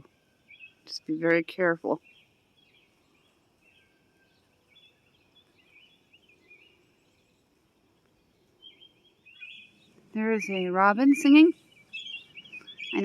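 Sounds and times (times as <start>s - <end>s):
robin singing faintly: 0.0s - 13.0s.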